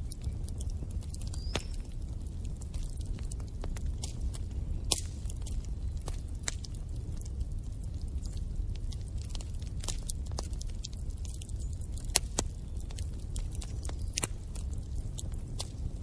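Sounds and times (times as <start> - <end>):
low rumble of flames: 0.0 - 16.0
wood fire pops and snaps: 0.0 - 16.0.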